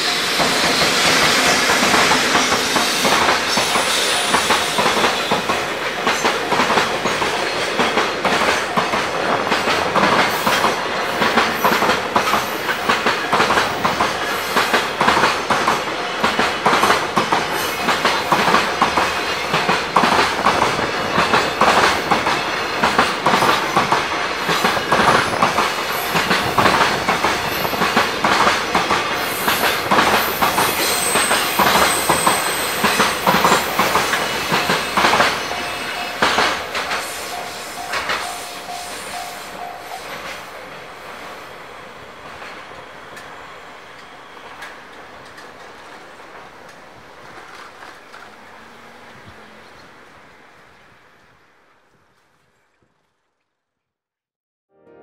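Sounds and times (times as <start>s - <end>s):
freight train rolling past: 0.0s - 52.2s.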